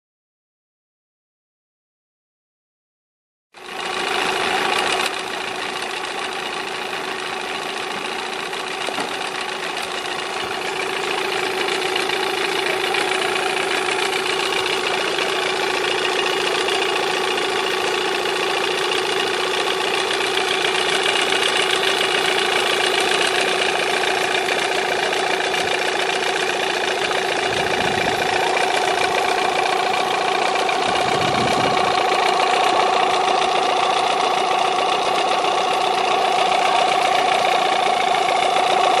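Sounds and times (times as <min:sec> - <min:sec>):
outboard motor idling: 0:03.6 - 0:39.0.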